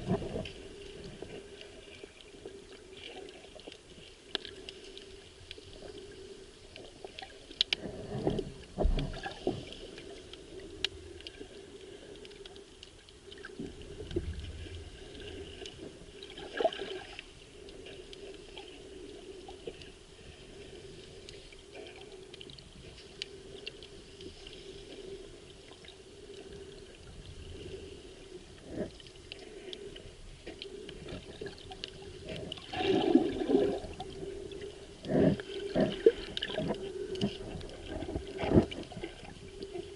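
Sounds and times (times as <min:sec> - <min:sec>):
water surges and knocks: 0:00.0 - 0:06.0, 0:06.6 - 0:11.4, 0:12.8 - 0:18.8, 0:19.4 - 0:39.9
underwater sloshing and gurgling: 0:00.0 - 0:39.9.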